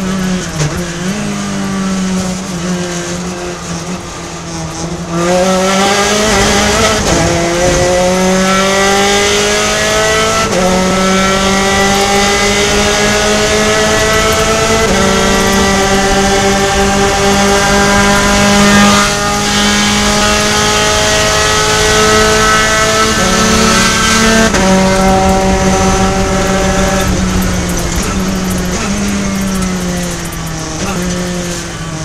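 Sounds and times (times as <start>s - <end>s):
race car engine accelerating: 0.0s - 32.0s.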